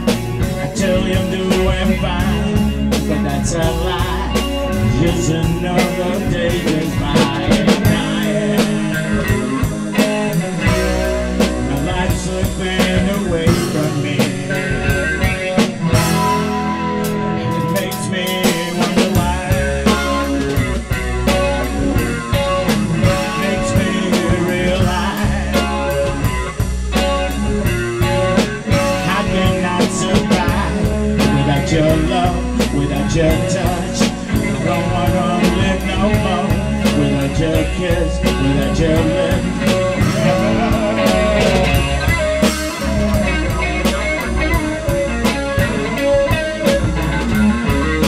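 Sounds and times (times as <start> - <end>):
blues-rock band playing: 0.0 - 48.0.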